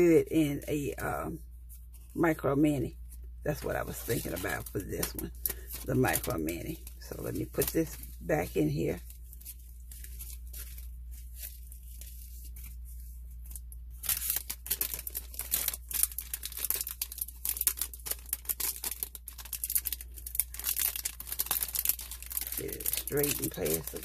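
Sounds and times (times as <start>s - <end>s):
plastic bag crinkling: 3.5s - 24.0s.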